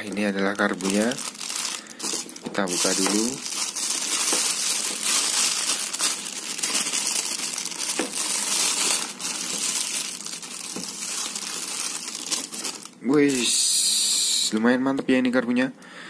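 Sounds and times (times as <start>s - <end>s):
plastic bag and bubble wrap crinkling: 0.0s - 13.7s.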